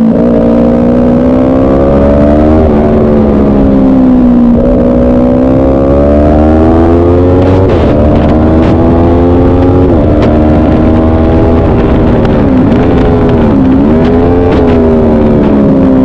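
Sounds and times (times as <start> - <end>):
motorcycle engine running hard: 0.0 - 16.0
wind rumble on microphone: 0.0 - 16.0.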